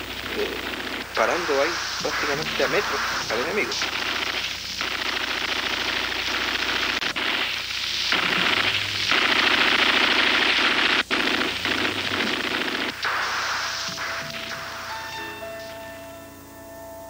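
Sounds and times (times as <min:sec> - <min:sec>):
machine-gun fire: 0:00.0 - 0:15.2.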